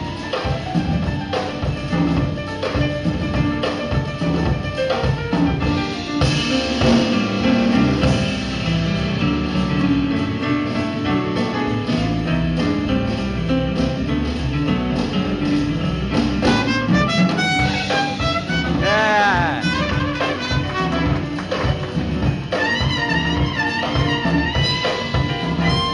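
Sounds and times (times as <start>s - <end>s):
band playing music: 0.0s - 25.9s
steady drum beat: 0.0s - 25.9s.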